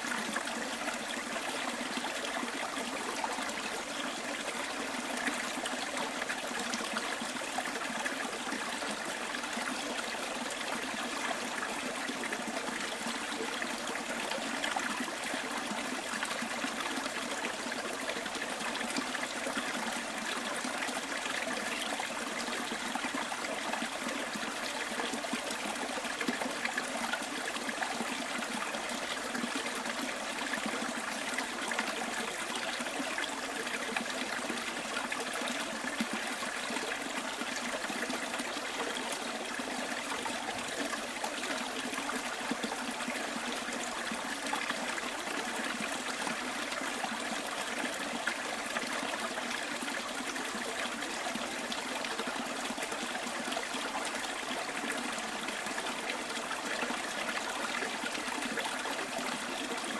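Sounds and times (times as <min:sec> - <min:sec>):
stream babbling over stones: 0:00.0 - 0:59.9.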